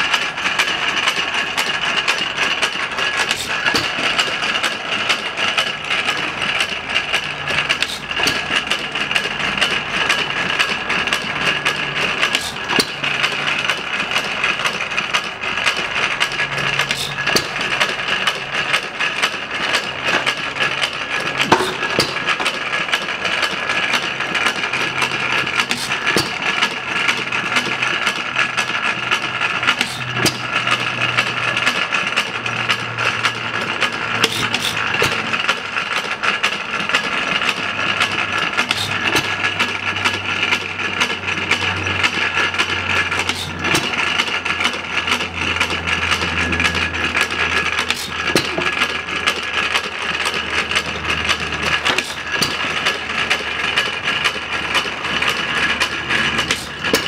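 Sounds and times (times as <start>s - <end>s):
engine knocks: 0.0s - 57.0s
engine mechanical clatter: 0.0s - 57.0s.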